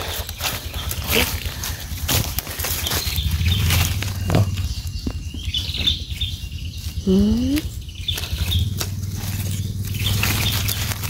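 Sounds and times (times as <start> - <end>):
rustling of leaf litter and twigs: 0.0 - 11.0
steady low rumble: 0.3 - 11.0.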